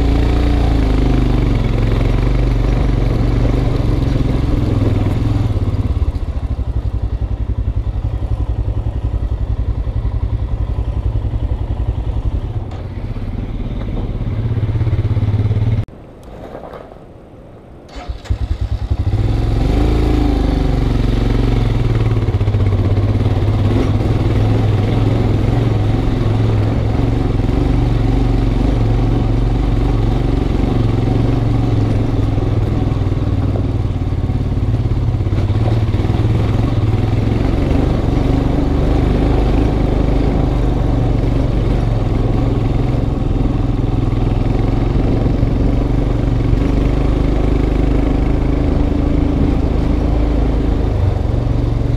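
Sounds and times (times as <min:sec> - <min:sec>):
motorcycle engine running: 0:00.0 - 0:15.9, 0:18.3 - 0:51.9.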